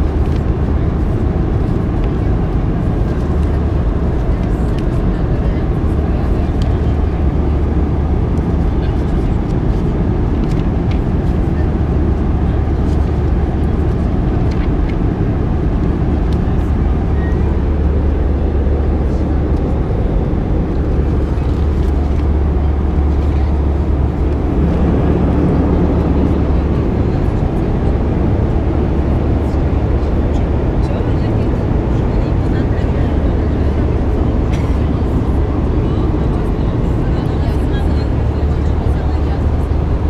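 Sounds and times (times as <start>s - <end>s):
aircraft cabin engine and airflow roar: 0.0s - 40.0s.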